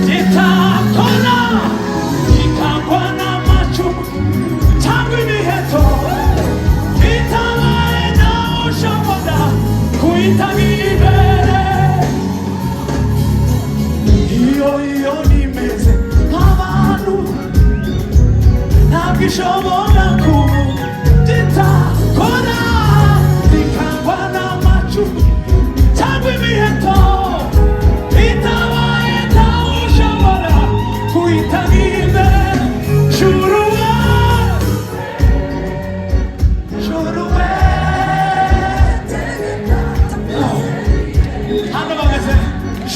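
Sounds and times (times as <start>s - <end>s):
gospel singing with band: 0.0s - 42.9s.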